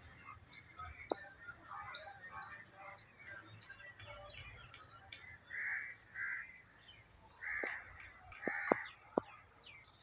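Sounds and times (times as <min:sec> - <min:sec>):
harsh bird calls: 0:00.0 - 0:10.0.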